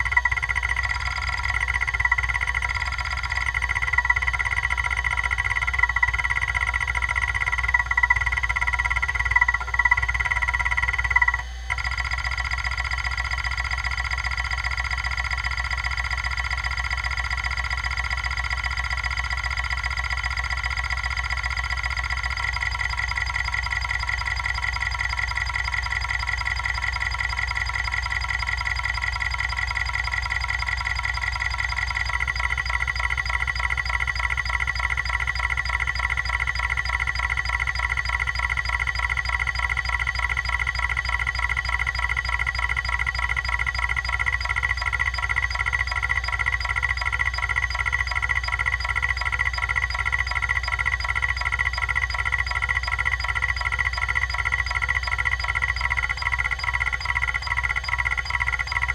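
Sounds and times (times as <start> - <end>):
hard drive head seeking ticks: 0.0 - 58.9
hard drive whine: 0.0 - 58.9.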